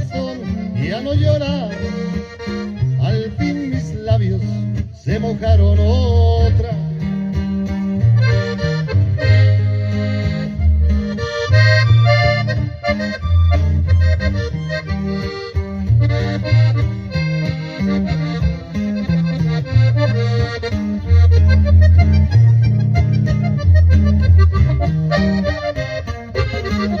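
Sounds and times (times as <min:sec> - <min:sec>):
accordion melody: 0:00.0 - 0:27.0
bass notes: 0:00.0 - 0:27.0.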